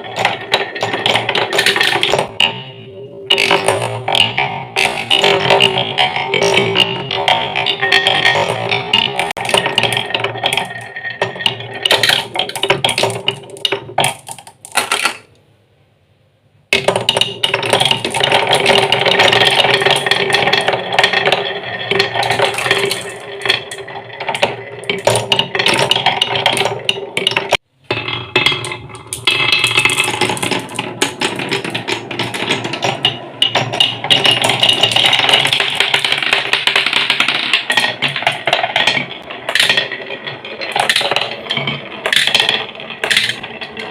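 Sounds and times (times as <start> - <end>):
marbles rolling on wooden run: 0.0 - 15.3, 16.7 - 43.9.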